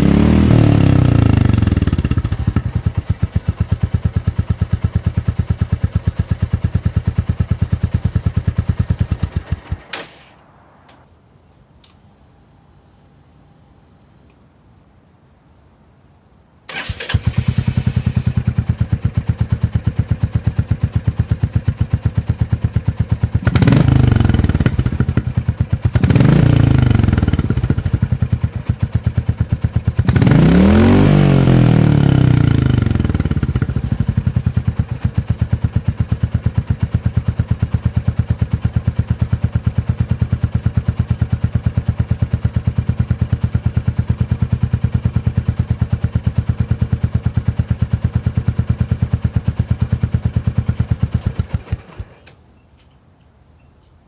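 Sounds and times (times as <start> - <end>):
motorcycle engine idling and revving: 0.0 - 11.0, 16.7 - 52.4.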